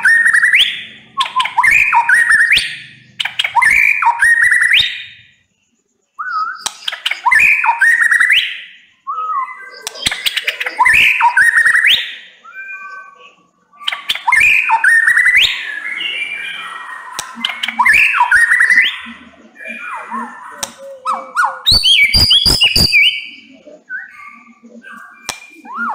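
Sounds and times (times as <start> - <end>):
bird singing whistles and clicks: 0.0 - 5.1, 6.2 - 15.6, 17.0 - 19.2, 19.8 - 25.9.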